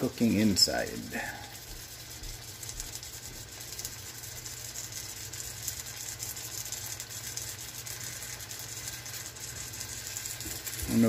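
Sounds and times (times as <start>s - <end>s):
steaks sizzling in a frying pan: 0.0s - 11.0s.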